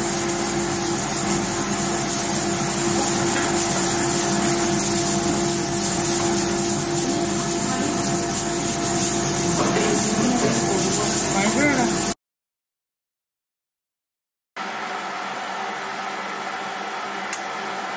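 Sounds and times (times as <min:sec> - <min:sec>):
mechanical hum: 0:00.0 - 0:12.2, 0:14.6 - 0:17.9.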